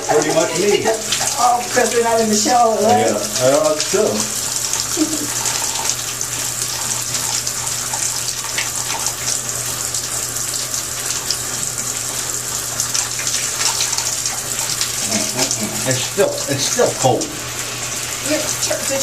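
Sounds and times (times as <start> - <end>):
shower water spray hissing: 0.0 - 19.0.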